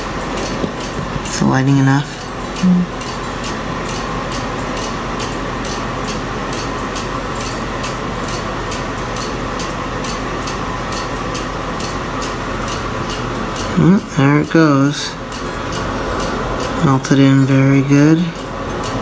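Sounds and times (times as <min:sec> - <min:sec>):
light regular ticking: 0:00.0 - 0:19.0.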